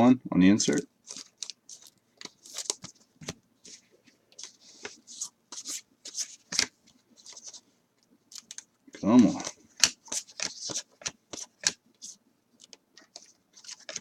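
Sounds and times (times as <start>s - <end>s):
trading cards sliding and flipping: 1.0s - 7.6s, 9.2s - 14.0s.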